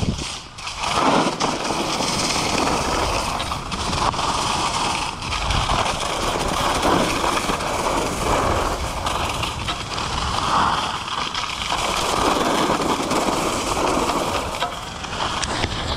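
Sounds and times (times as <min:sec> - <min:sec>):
skis scraping snow: 0:00.0 - 0:15.9
wind on microphone: 0:00.0 - 0:15.9.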